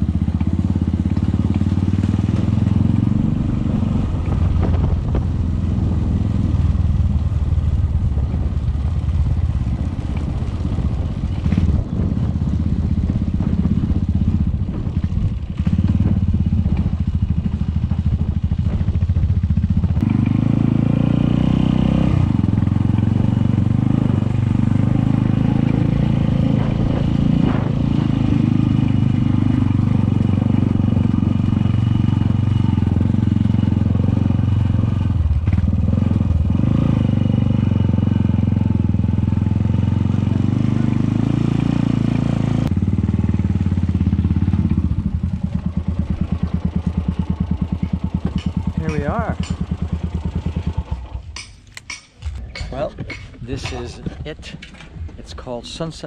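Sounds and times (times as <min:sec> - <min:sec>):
motorcycle engine revving and idling: 0:00.0 - 0:56.0.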